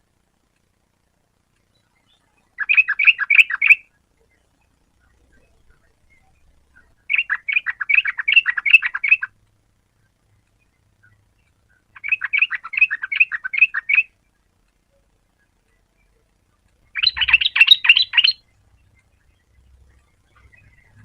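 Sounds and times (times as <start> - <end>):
bird chattering song: 1.6 - 9.4, 10.4 - 14.4, 15.0 - 21.0.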